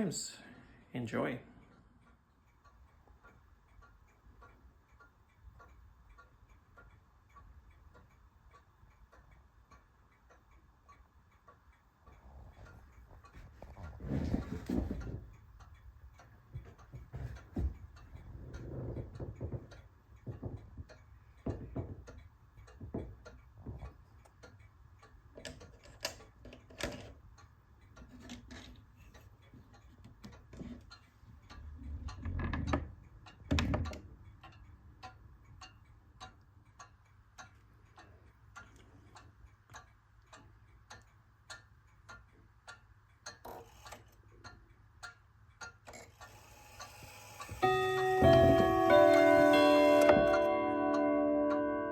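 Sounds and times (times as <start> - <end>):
wall clock ticking: 1.0 - 51.9.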